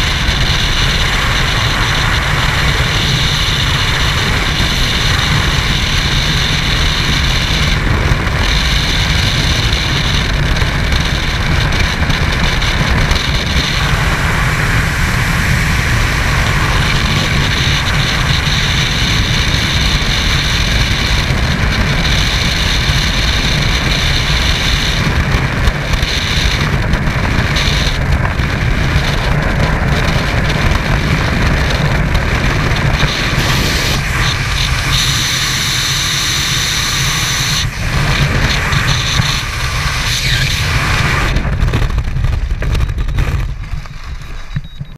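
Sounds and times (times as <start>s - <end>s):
wind rushing in freefall: 0.0s - 44.9s.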